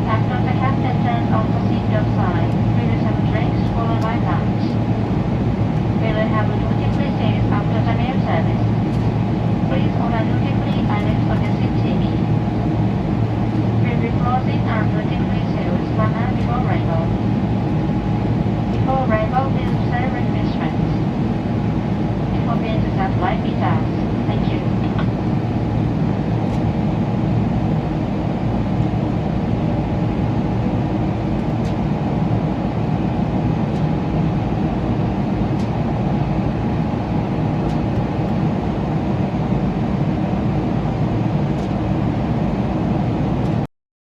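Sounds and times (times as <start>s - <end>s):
engines and airflow rumbling: 0.0s - 43.7s
faint hum: 0.0s - 43.7s.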